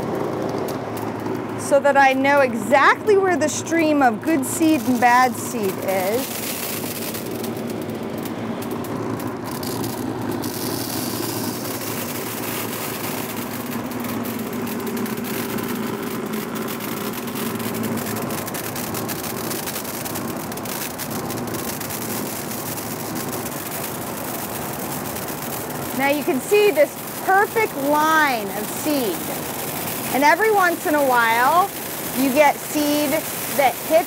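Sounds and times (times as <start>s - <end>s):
blower motor whirring: 0.0s - 34.0s
seeds pattering: 3.5s - 34.0s.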